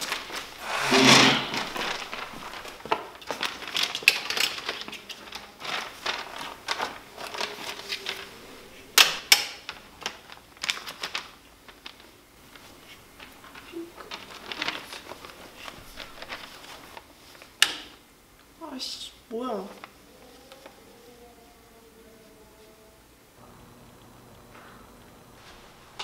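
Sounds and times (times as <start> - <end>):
fabric and paper rustling: 0.0 - 17.9, 19.4 - 22.9, 24.5 - 26.0.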